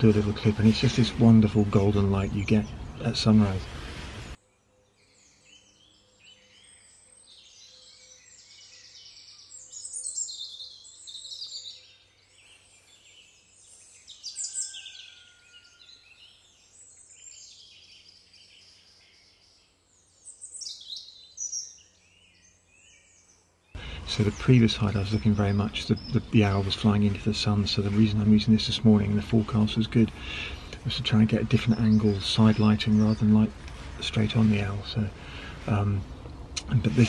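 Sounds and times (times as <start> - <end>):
birds chirping and singing: 0.0 - 37.0.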